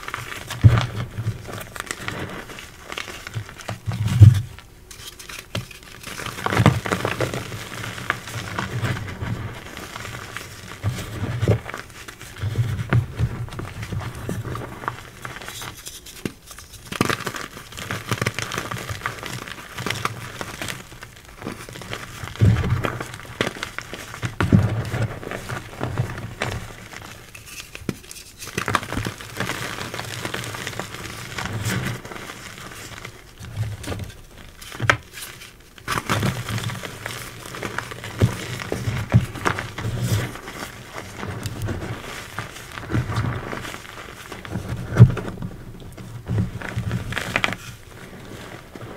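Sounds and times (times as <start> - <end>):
chalk crushed by hand crackling: 0.0 - 48.9.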